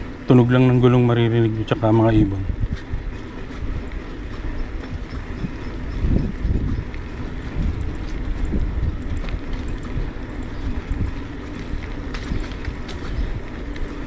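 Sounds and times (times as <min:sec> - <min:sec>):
bike tyres rolling on road: 0:00.0 - 0:14.0
wind buffeting microphone: 0:00.0 - 0:14.0.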